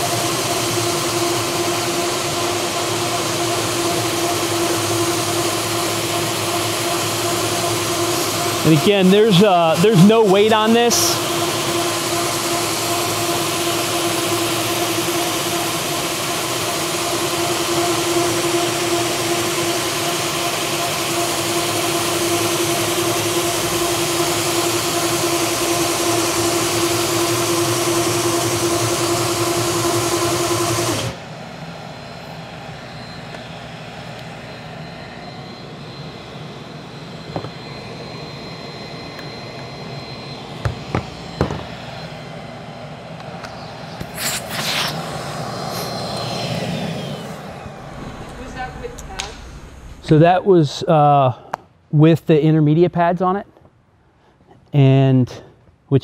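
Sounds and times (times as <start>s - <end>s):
floor buffer sanding hum: 0.0s - 48.9s.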